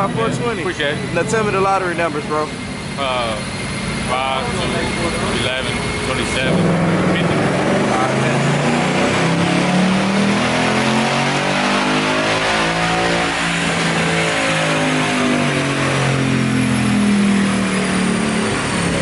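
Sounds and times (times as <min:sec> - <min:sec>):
car engine revving under load: 0:00.0 - 0:19.0.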